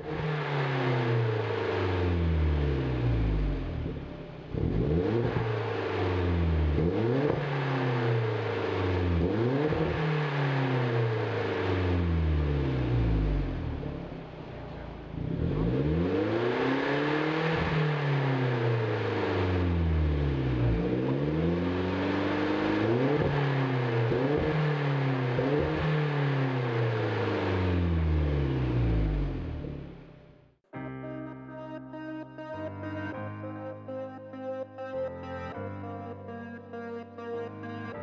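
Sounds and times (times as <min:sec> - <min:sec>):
car engine revving: 0:00.0 - 0:30.6, 0:32.9 - 0:38.0.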